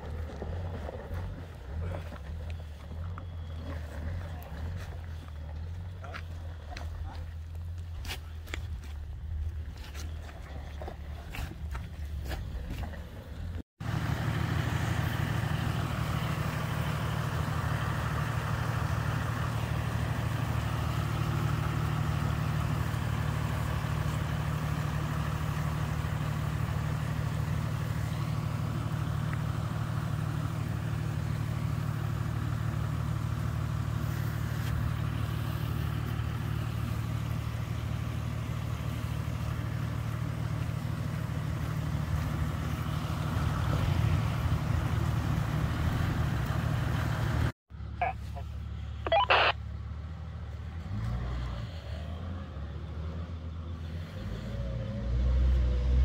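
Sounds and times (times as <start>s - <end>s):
car engine and road hum: 0.0s - 56.0s.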